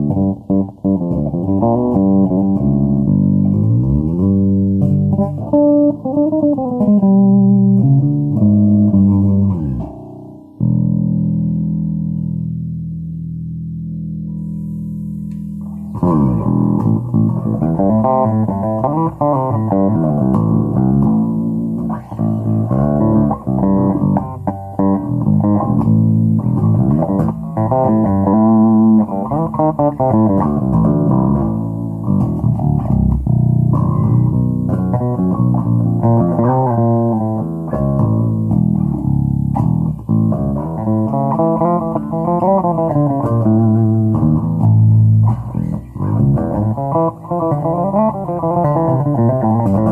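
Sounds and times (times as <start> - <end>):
electric bass guitar plucked notes: 0.0 - 49.9.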